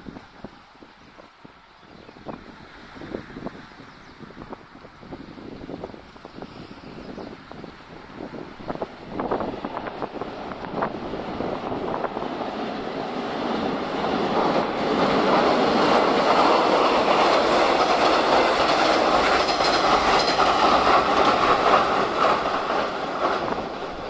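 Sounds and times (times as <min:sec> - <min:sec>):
diesel train crossing steel bridge: 0:00.0 - 0:24.0.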